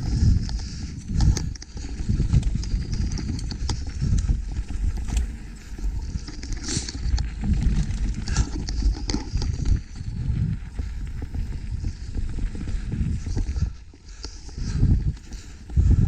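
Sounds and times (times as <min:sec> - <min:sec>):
bike knocks and rattles: 0:00.0 - 0:13.6
mountain bike rumbling on trail: 0:00.0 - 0:16.0.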